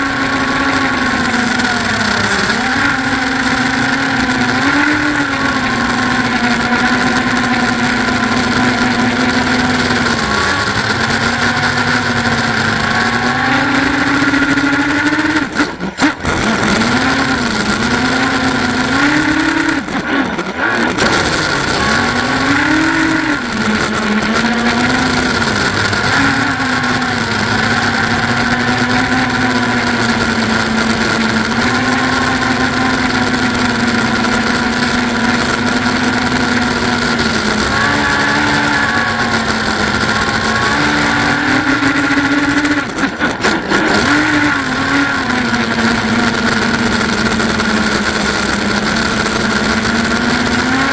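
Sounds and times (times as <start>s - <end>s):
quadcopter propellers whining: 0.0s - 50.9s.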